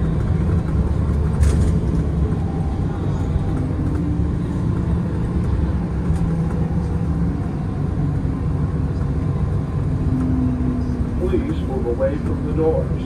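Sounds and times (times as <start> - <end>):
bus engine hum: 0.0 - 13.0
road and tyre noise: 0.0 - 13.0.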